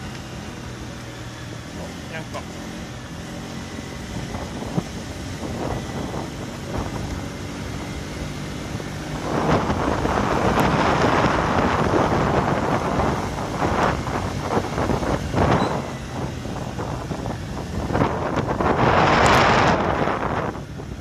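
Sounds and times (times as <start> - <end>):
car engine hum: 0.0 - 21.0
road noise: 0.0 - 21.0
wind rushing on microphone: 2.9 - 21.0.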